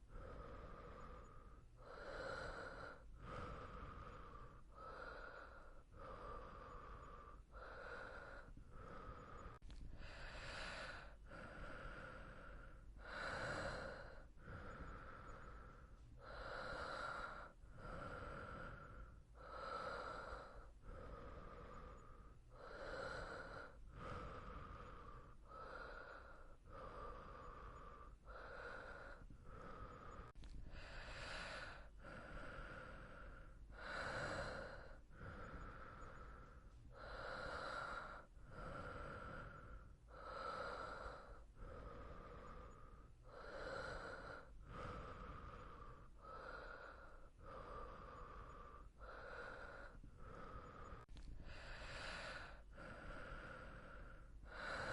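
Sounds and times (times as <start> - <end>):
person breathing while sleeping: 0.0 - 54.9.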